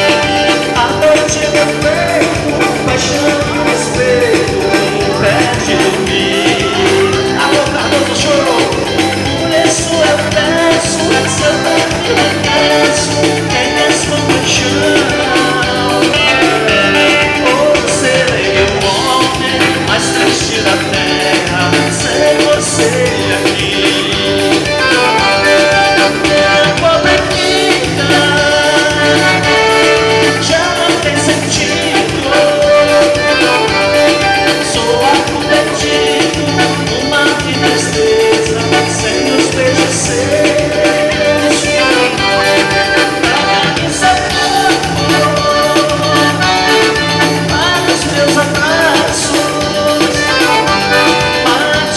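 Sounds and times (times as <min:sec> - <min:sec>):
live band dance music: 0:00.0 - 0:51.9
person singing: 0:00.0 - 0:51.9
repeating bass line: 0:00.0 - 0:51.9.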